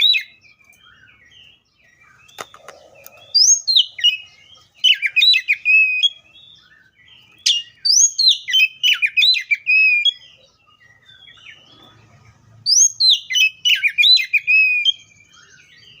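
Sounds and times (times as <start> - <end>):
magpie-robin singing: 0.0 - 16.0.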